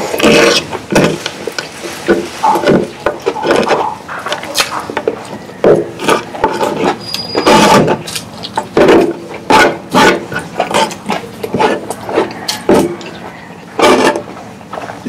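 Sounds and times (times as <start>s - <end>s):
close-miked chewing: 0.0s - 15.0s.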